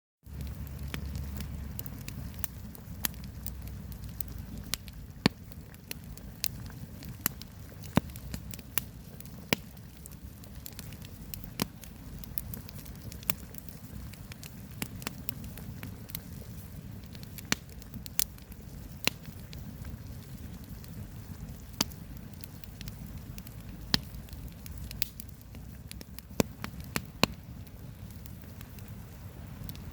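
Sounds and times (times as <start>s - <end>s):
campfire crackling and popping: 0.2s - 29.9s.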